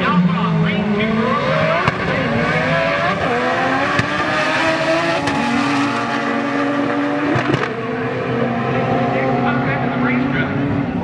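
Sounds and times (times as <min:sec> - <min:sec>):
drag car engines revving: 0:00.0 - 0:11.0.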